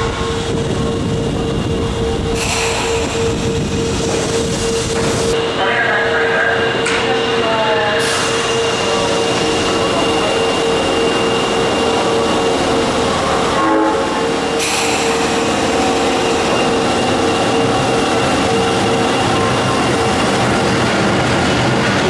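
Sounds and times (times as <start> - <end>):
subway train running: 0.0 - 22.0.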